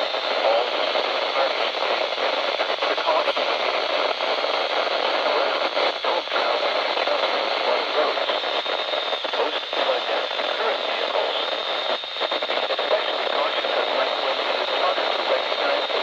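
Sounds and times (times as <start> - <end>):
faint high whine: 0.0 - 16.0
radio static hiss: 0.0 - 16.0.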